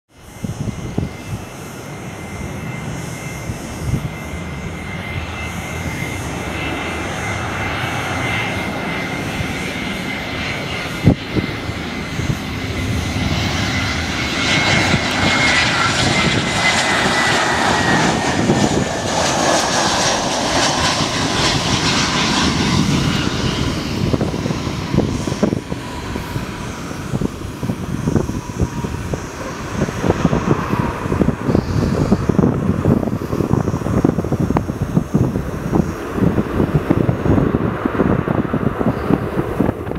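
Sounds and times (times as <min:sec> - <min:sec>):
jet engine whine: 0:00.1 - 0:39.9.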